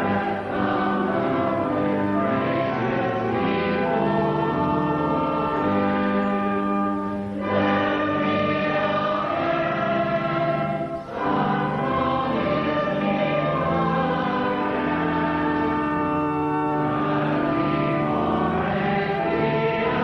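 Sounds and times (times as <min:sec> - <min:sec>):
choir singing a hymn: 0:00.0 - 0:20.0
organ chords: 0:00.0 - 0:20.0.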